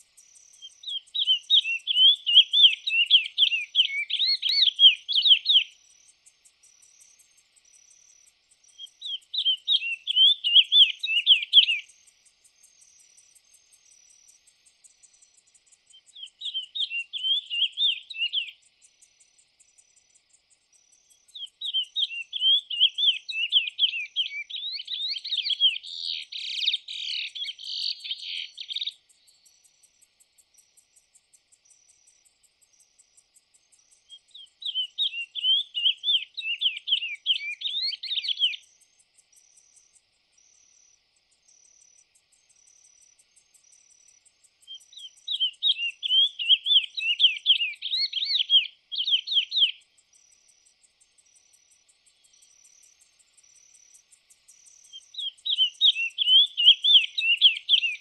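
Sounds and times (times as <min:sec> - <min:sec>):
finch singing: 0:00.0 - 0:29.8, 0:31.6 - 0:58.0.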